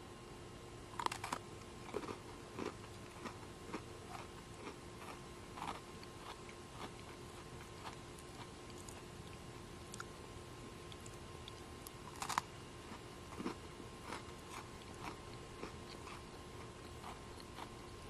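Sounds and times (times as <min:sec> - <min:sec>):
chewing crunches: 0:00.9 - 0:18.0
cookie crunching: 0:01.0 - 0:18.0.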